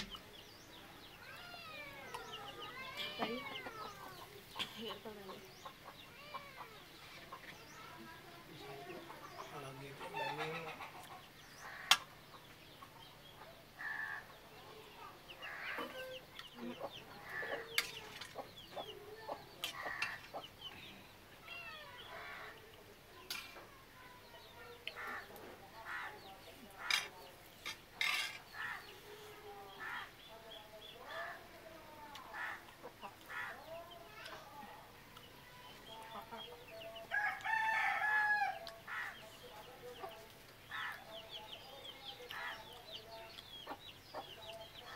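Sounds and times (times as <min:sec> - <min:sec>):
chickens clucking: 0:00.0 - 0:38.0, 0:38.6 - 0:44.9.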